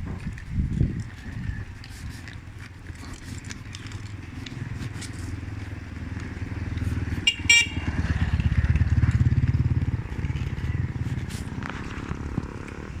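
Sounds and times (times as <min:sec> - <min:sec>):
engine running with low pulsing: 0:00.0 - 0:13.0.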